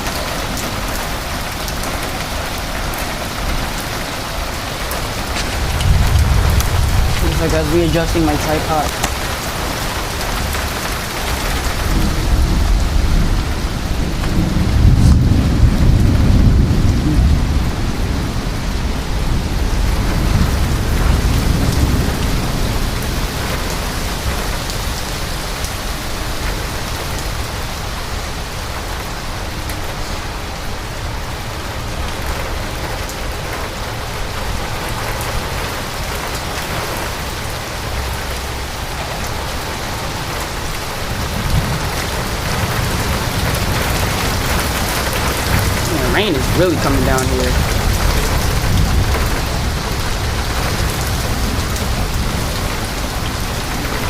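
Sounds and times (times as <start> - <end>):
low rumble of thunder: 0.0 - 25.2, 26.2 - 46.5, 47.5 - 54.0
heavy rain pouring: 0.0 - 54.0.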